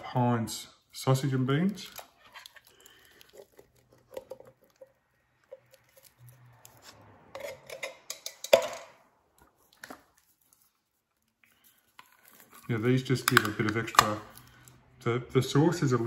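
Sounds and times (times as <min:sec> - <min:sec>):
food squelching: 0:01.1 - 0:08.5, 0:09.1 - 0:15.0.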